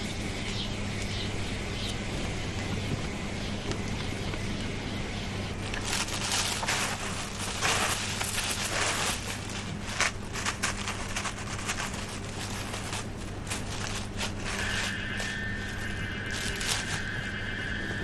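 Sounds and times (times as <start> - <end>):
crackling and rustling: 0.0 - 18.0
low electrical hum: 0.0 - 18.0.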